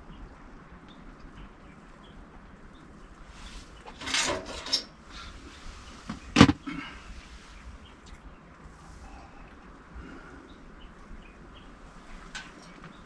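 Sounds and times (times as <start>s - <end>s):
rustle: 0.0s - 13.0s.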